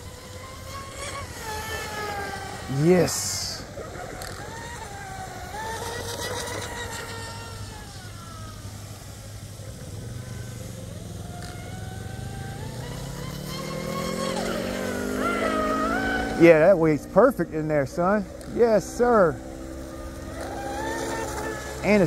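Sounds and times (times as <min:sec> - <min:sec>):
rc boat electric motor whining: 0:00.0 - 0:22.0.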